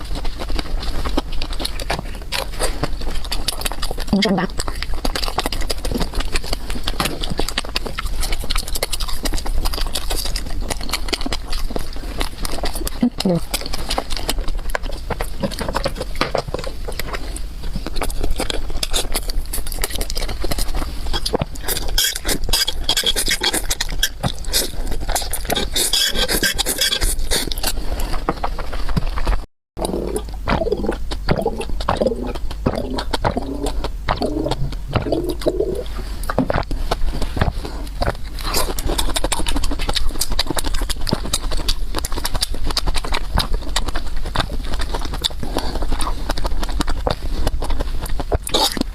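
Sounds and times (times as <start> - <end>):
wet mouth clicks: 0.0 - 29.2, 29.8 - 48.9
chewing and crunching: 0.0 - 48.9.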